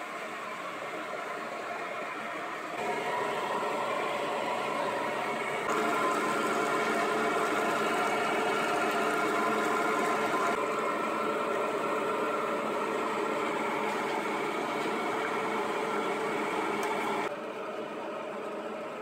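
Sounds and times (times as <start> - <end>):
electric meat mincer whirring: 2.8 - 18.2.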